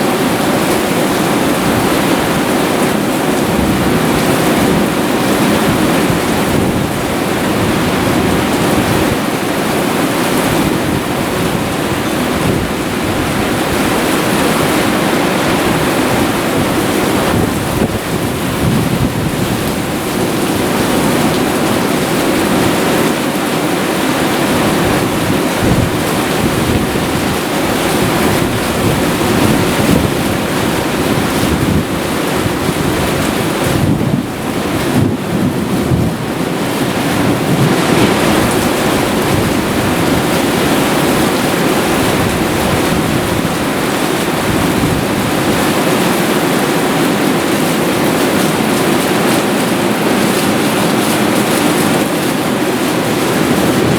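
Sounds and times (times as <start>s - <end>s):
heavy rain: 0.0s - 53.9s
wind gusting on microphone: 0.0s - 53.9s.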